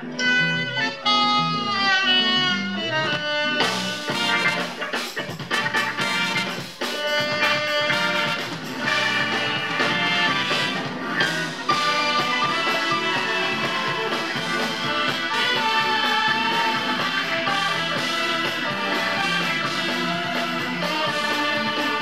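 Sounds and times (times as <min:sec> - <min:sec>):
electric guitars: 0:00.0 - 0:22.0
jazz-fusion band playing live: 0:00.0 - 0:22.0
keyboard: 0:00.0 - 0:22.0.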